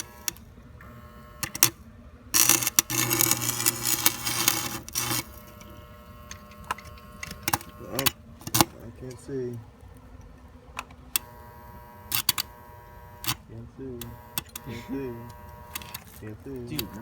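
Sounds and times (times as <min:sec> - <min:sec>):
arc welder crackling pops: 0:00.0 - 0:01.8, 0:02.4 - 0:17.0
welding arc crackle and hum: 0:00.0 - 0:17.0.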